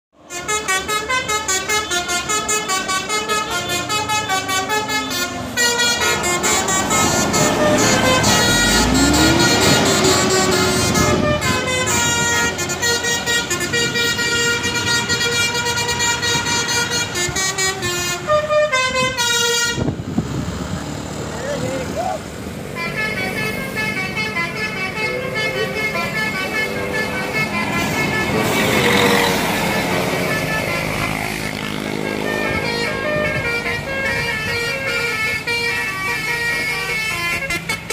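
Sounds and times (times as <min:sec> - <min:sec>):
road noise: 0:00.1 - 0:37.9
multi-tone musical bus horn: 0:00.2 - 0:20.2, 0:22.5 - 0:37.9.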